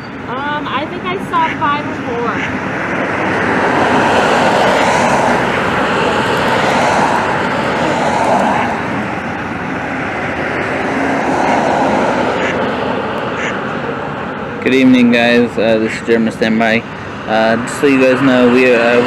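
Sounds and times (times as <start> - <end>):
loud engine roar: 0.0 - 19.0.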